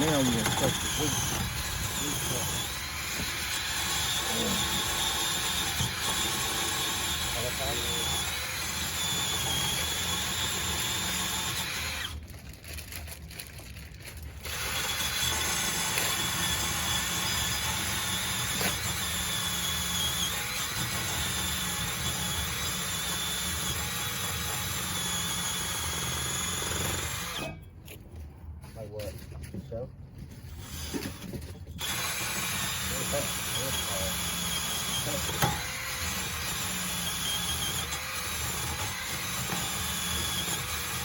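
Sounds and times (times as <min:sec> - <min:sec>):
loud machine noise: 0:00.0 - 0:12.2, 0:14.4 - 0:27.6, 0:31.8 - 0:41.0.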